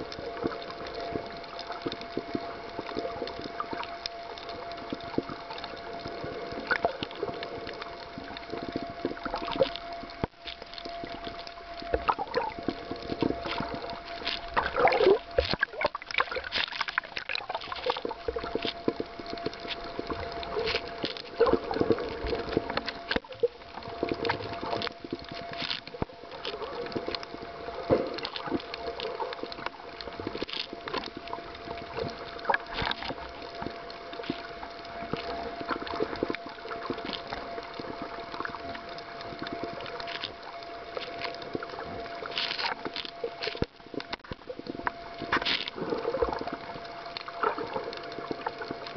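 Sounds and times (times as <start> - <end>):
clicks and crackles: 0.0 - 48.9
faint steady hum: 0.0 - 48.9
water gurgling underwater: 0.0 - 48.9.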